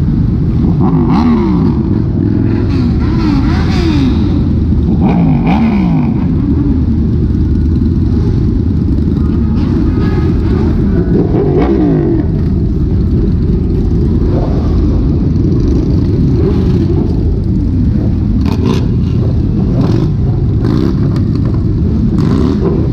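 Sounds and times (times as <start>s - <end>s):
motorcycle engines revving: 0.0s - 22.9s.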